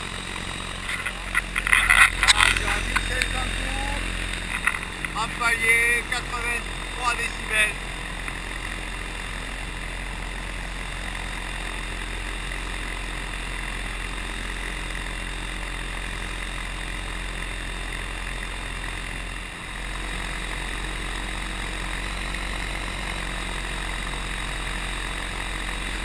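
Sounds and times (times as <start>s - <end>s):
electric motor propeller whine: 0.0s - 26.0s.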